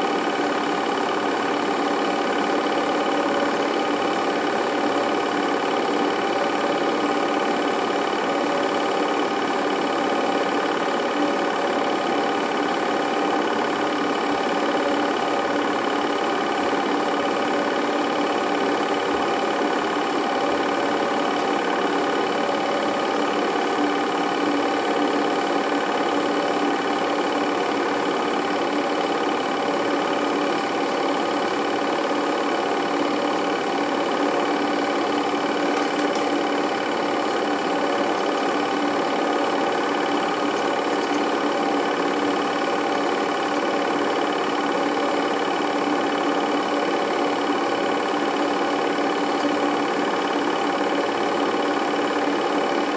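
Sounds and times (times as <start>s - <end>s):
film projector running: 0.0s - 52.9s.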